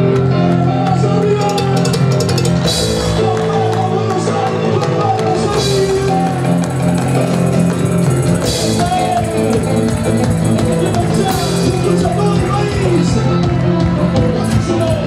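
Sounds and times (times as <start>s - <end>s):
live band playing instrumental: 0.0s - 15.0s.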